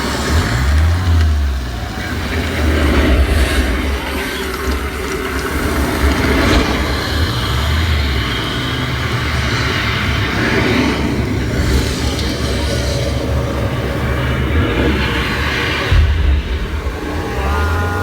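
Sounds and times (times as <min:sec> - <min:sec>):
boat motor rumbling: 0:00.0 - 0:18.0
loud rushing noise: 0:00.0 - 0:18.0.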